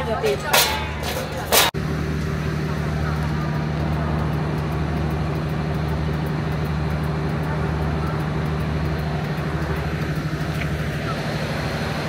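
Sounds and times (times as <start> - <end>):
traffic noise: 0.0 - 12.0
vehicle engine droning: 0.0 - 12.0.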